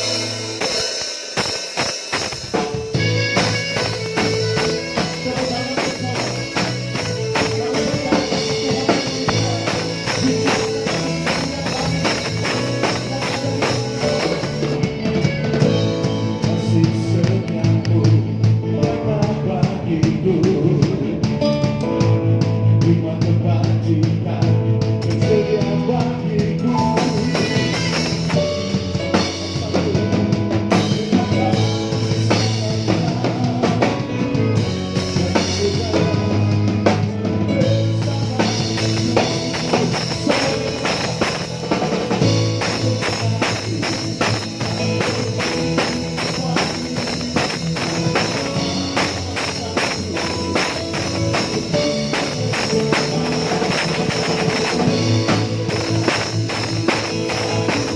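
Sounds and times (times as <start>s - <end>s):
drum kit: 0.0s - 57.9s
live band playing: 0.0s - 57.9s.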